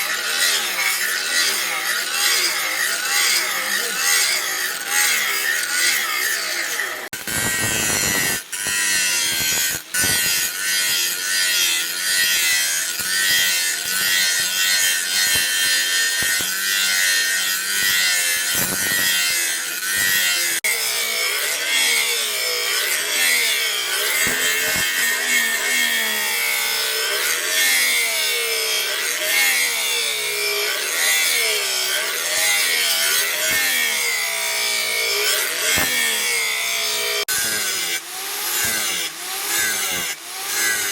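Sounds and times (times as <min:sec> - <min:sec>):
cutting tool rasping on steel: 0:00.0 - 0:40.9.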